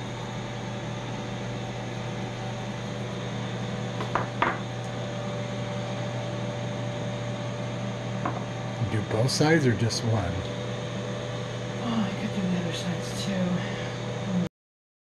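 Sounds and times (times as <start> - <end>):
grill low hum: 0.0 - 14.5.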